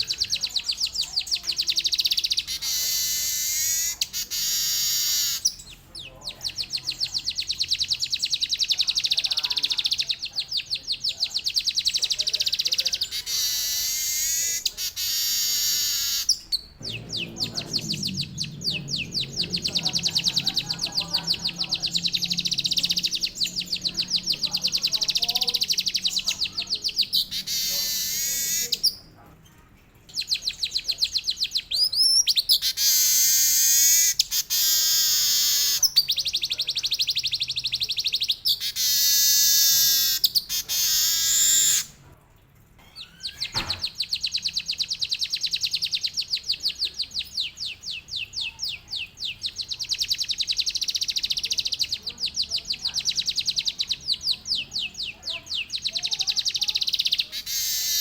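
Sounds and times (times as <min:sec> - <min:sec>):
bird singing fast trills: 0:00.0 - 0:29.1, 0:30.1 - 0:42.0, 0:43.0 - 0:58.0.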